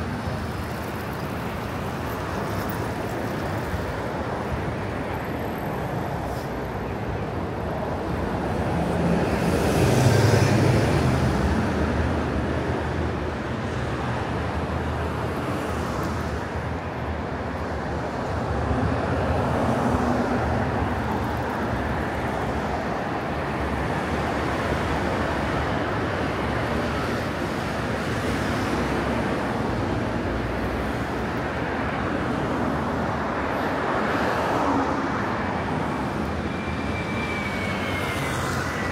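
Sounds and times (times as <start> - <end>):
passing cars: 0.0 - 38.9.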